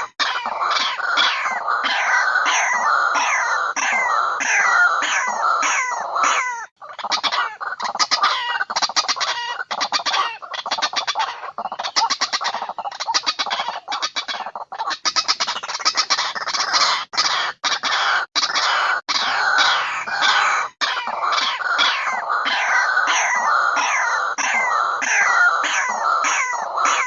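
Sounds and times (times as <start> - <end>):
waterhen harsh calls: 0.0 - 27.0.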